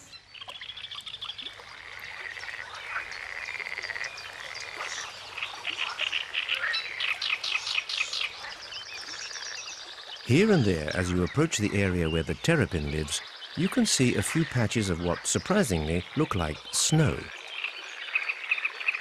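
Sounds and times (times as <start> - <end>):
frogs trilling and croaking: 0.0 - 19.0.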